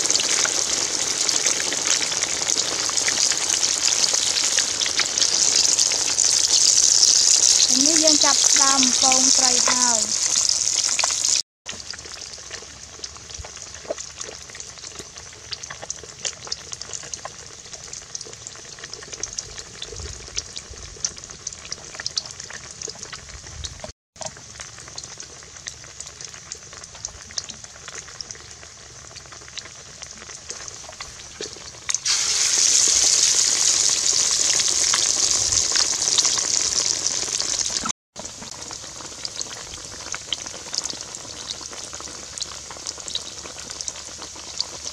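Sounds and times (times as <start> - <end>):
oil sizzling and crackling: 0.0 - 44.9.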